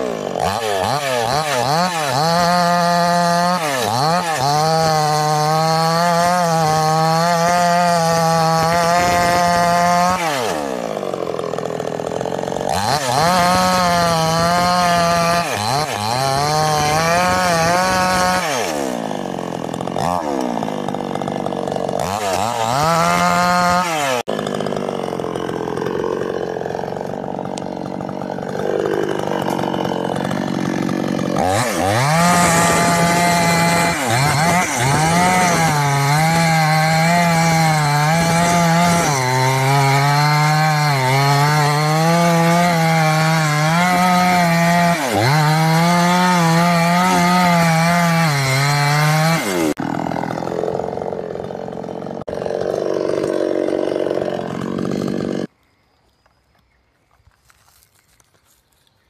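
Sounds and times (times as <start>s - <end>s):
chainsaw cutting wood: 0.0s - 55.5s.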